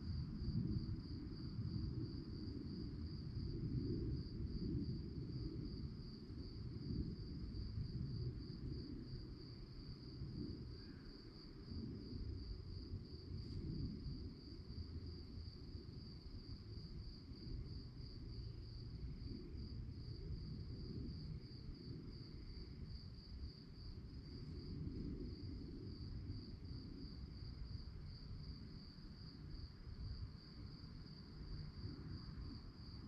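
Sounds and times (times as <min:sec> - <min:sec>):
crickets chirping: 0:00.0 - 0:33.0
low rumble of background noise: 0:00.0 - 0:33.0.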